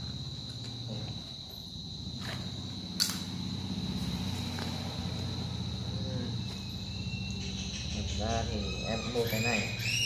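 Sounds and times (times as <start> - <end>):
cricket trilling: 0.0 - 10.0.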